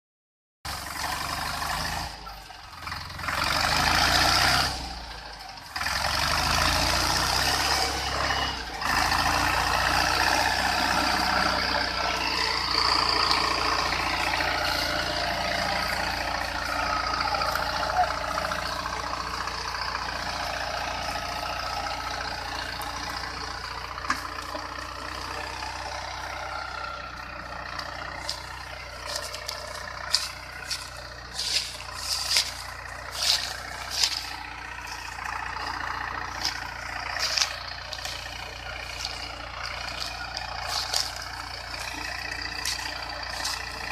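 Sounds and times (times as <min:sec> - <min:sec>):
tractor engine running: 0:00.6 - 0:43.9.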